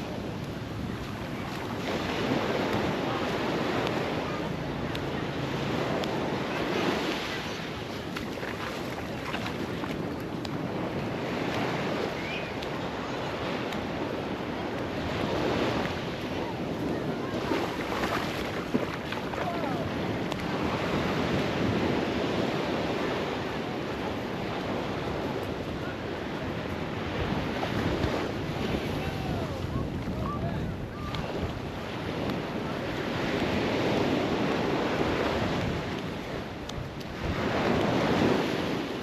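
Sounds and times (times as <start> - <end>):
ocean surf breaking: 0.0 - 39.0
wind noise on microphone: 0.0 - 39.0.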